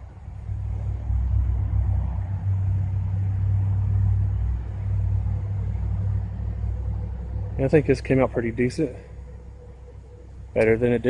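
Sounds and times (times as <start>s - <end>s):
faint hum: 0.0s - 11.0s
steady low rumble: 0.0s - 11.0s.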